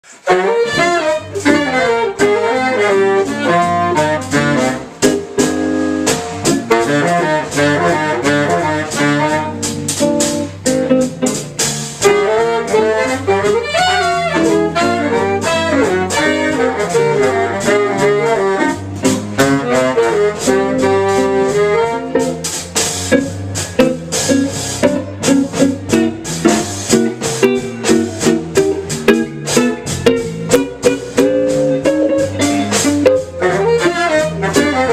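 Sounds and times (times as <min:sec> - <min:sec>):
bebop jazz band: 0:00.0 - 0:34.9.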